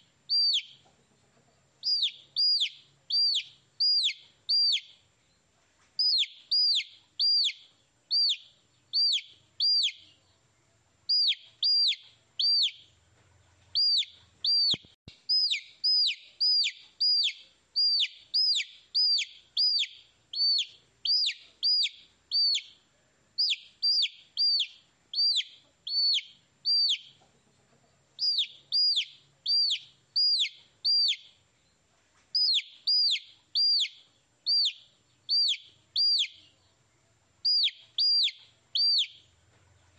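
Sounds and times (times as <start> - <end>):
baby chicks peeping: 0.0 - 10.5, 11.1 - 39.9.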